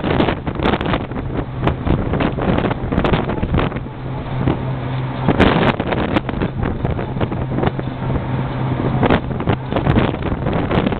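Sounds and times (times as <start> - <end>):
low engine hum: 0.0 - 10.9
wind buffeting microphone: 0.0 - 10.9.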